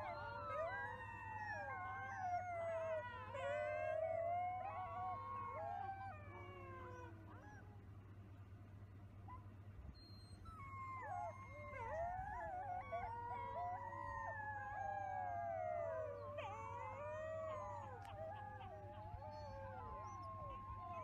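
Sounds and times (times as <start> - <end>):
wolf pups howling: 0.0 - 7.7, 10.0 - 21.0.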